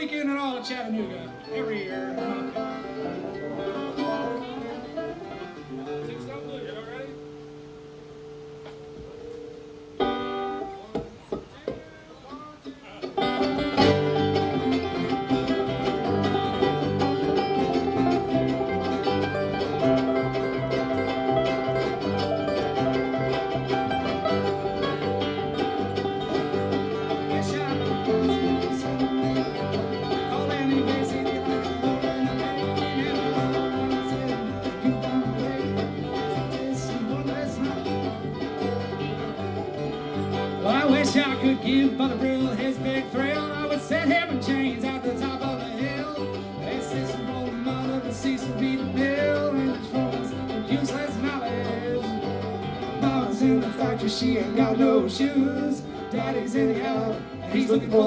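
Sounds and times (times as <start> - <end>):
bluegrass band playing: 0.0 - 58.0.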